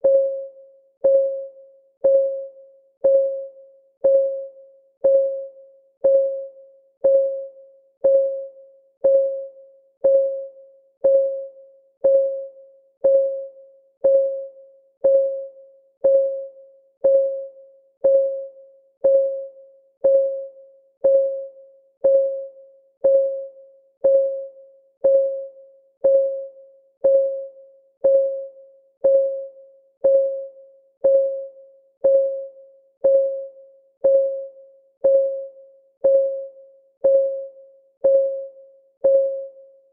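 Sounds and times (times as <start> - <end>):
electronic clock ticking: 0.0 - 39.6.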